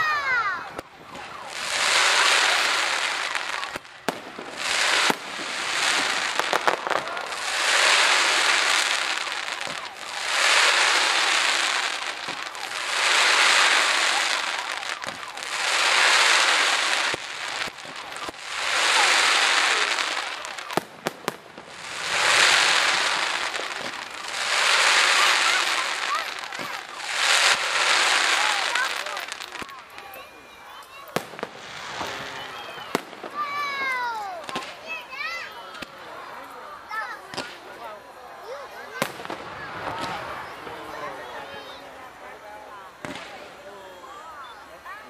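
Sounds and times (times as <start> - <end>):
crackling firework bursts: 0.0 - 45.0.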